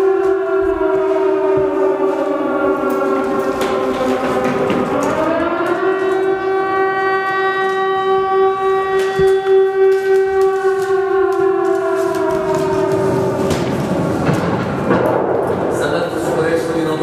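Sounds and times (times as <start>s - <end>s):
air-raid siren wailing: 0.0s - 17.0s.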